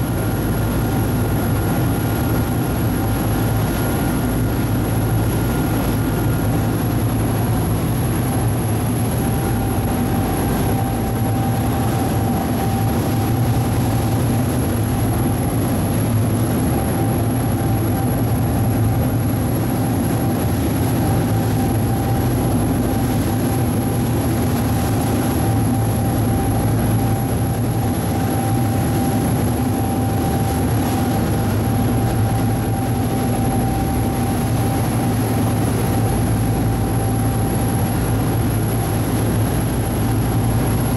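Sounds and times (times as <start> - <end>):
boat engine droning: 0.0 - 40.9
steady engine whine: 0.0 - 40.9.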